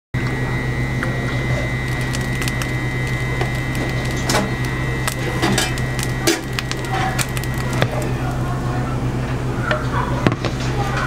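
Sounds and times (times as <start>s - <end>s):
cooktop electric hum and whine: 0.2s - 11.0s.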